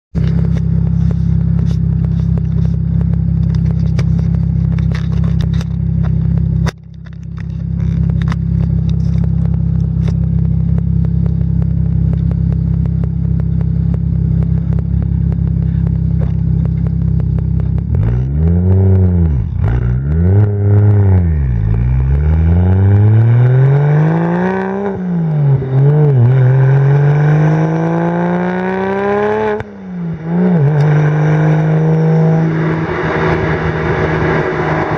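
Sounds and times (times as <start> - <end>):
car engine idling: 0.1 - 34.9
car engine revving: 0.2 - 34.9.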